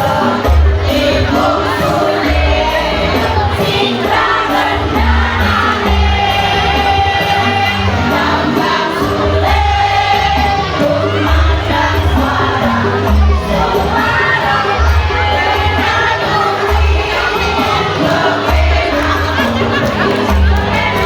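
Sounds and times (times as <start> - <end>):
amplified music with heavy bass: 0.0 - 21.0
choir singing held notes: 0.0 - 21.0.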